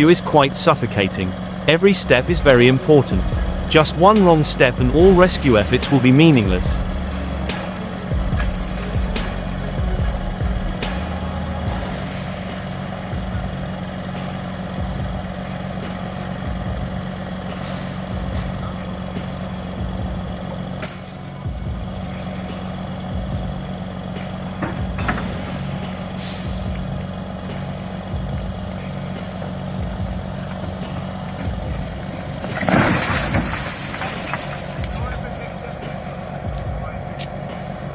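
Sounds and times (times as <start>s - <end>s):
heavy vehicle engine humming: 0.0s - 37.9s.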